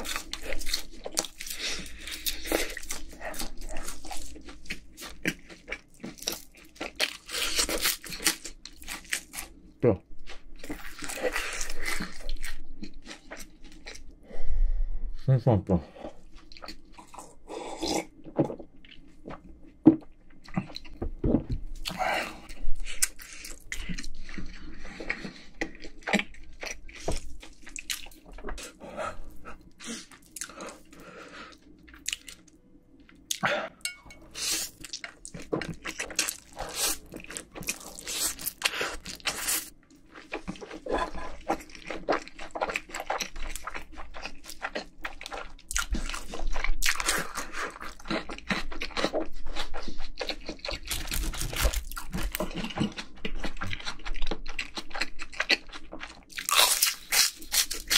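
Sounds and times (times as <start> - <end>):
wet chewing with crunchy bites: 0.0 - 14.2, 16.0 - 57.9.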